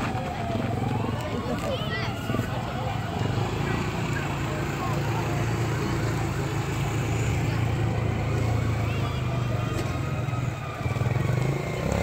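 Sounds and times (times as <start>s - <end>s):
quad bike engines running: 0.0s - 12.0s.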